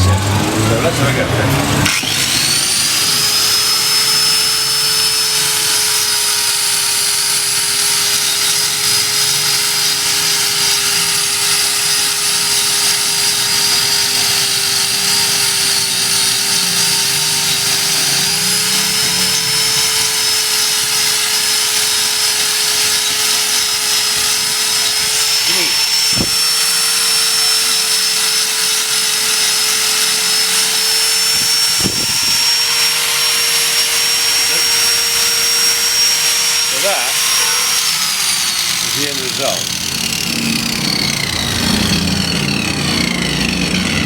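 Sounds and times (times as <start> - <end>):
power grinder whining: 0.0 - 44.0.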